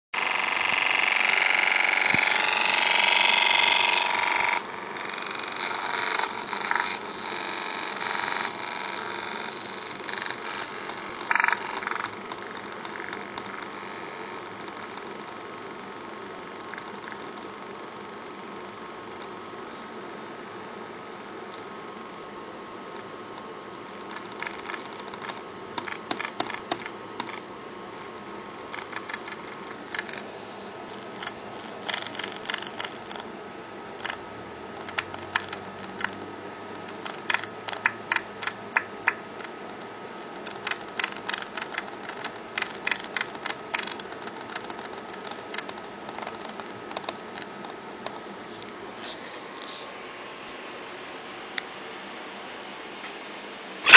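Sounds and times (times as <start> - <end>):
speaker hiss and hum: 0.2 - 53.9.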